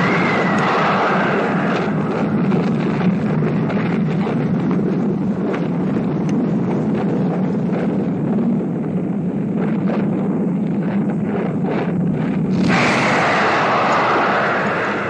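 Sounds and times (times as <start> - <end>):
rocket engines rumbling: 0.0 - 9.6, 11.9 - 15.0.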